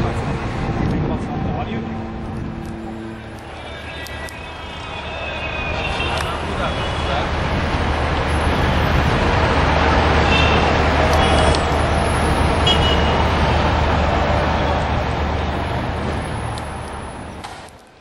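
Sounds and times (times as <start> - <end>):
low engine rumble: 0.0 - 17.3
traffic noise: 0.0 - 18.0.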